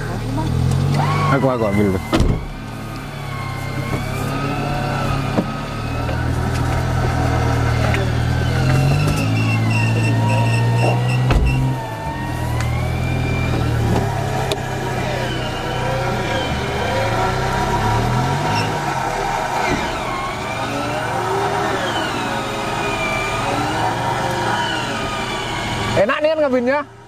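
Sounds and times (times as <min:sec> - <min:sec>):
electric winch whining: 0:00.0 - 0:26.2
car engine running: 0:00.0 - 0:27.0.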